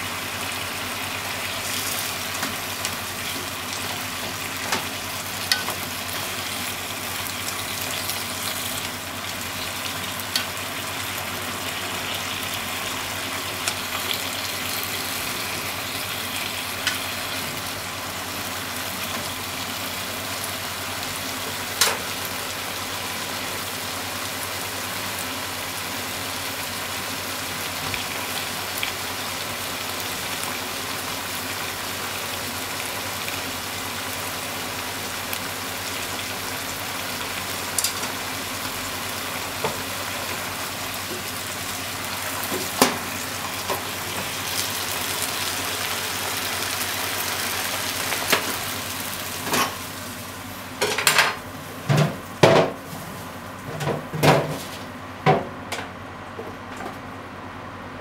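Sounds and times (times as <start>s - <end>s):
food sizzling in a frying pan: 0.0s - 53.6s.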